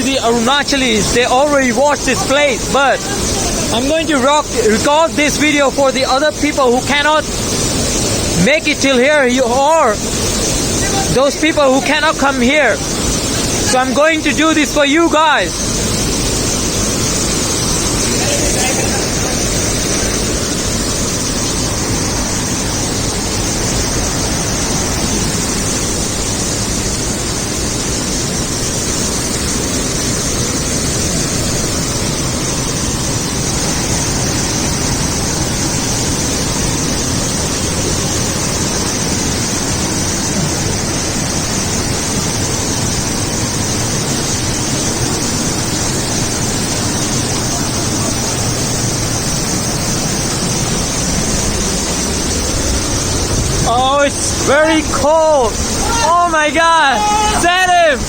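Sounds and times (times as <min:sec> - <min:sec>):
waterfall crashing: 0:00.0 - 0:58.0.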